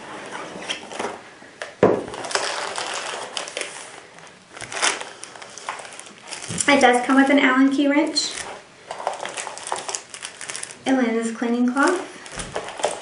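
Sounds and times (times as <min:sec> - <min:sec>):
packaging crinkling and rustling: 0:00.6 - 0:13.0.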